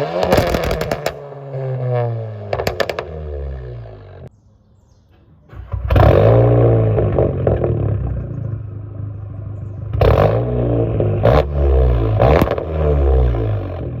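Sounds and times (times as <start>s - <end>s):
car engine revving: 0.0s - 4.3s, 5.5s - 14.0s
exhaust cracks: 0.0s - 4.3s, 5.5s - 14.0s.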